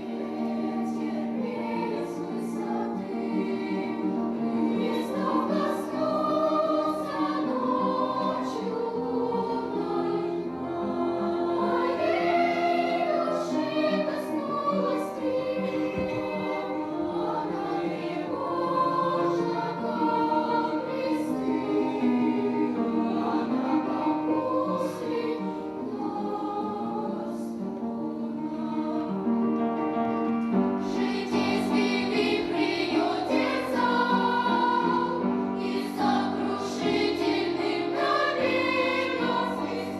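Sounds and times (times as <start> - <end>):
children's choir singing: 0.0 - 29.8, 30.5 - 39.9.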